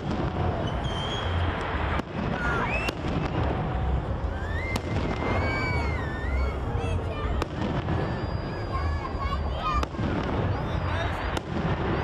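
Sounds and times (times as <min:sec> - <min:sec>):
firework sharp cracks: 0:00.0 - 0:06.5, 0:07.2 - 0:12.0
firework whistles: 0:00.0 - 0:12.0
fireworks booming: 0:00.0 - 0:12.0.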